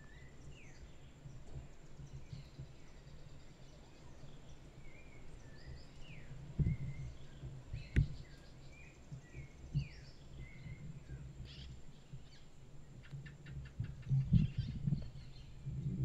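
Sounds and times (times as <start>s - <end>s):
birds whistling calls: 0.0s - 1.4s, 2.0s - 15.8s.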